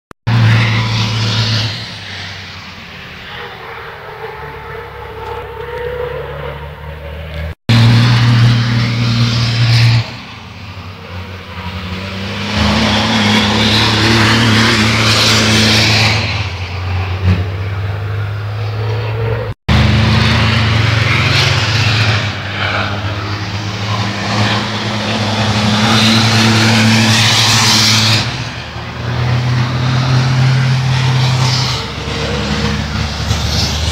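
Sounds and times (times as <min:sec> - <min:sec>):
racing truck engines passing: 0:00.3 - 0:33.9.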